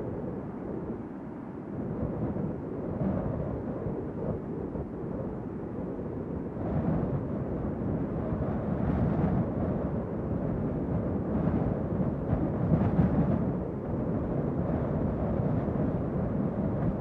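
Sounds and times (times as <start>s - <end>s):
wind blowing in gusts: 0.0s - 17.0s.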